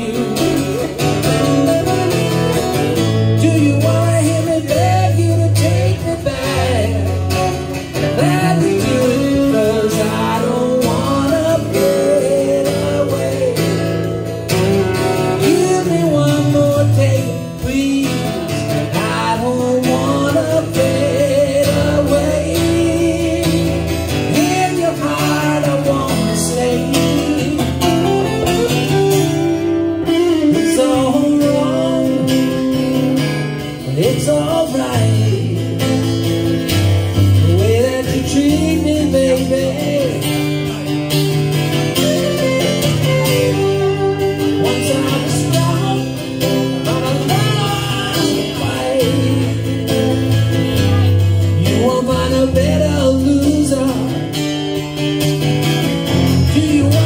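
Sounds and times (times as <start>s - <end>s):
man singing: 0.0s - 55.5s, 56.1s - 57.0s
acoustic guitar: 0.0s - 57.0s
electric guitar: 0.0s - 57.0s.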